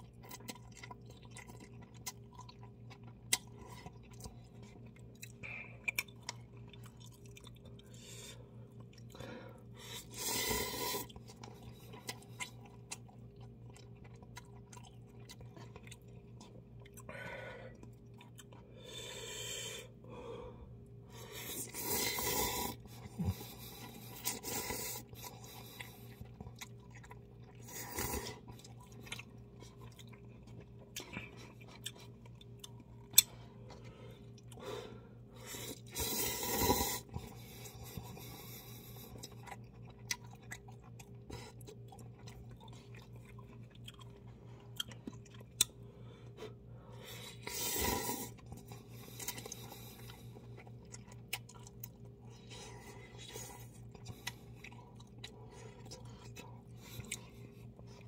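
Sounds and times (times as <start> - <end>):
quiet chewing: 0.0 - 19.8, 20.8 - 58.0
faint steady hum: 0.0 - 58.0.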